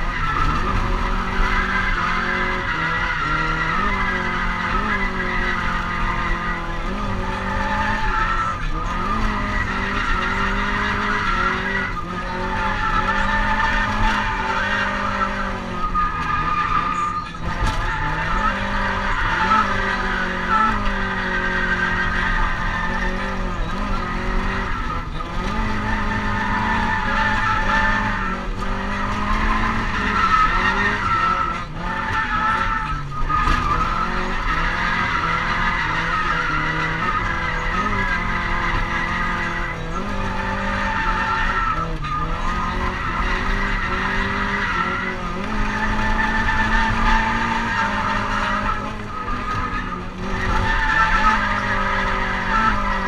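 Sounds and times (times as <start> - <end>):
car engine at high revs: 0.0 - 53.0
tyre squeal: 0.0 - 53.0.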